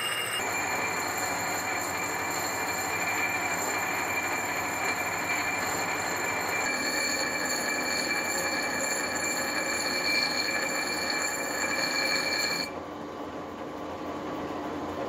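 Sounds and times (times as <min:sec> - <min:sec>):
bench grinder grinding metal: 0:00.0 - 0:12.7.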